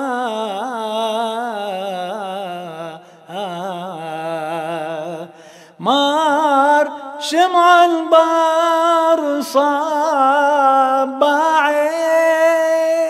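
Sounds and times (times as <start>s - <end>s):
man singing a hymn: 0.0s - 13.0s.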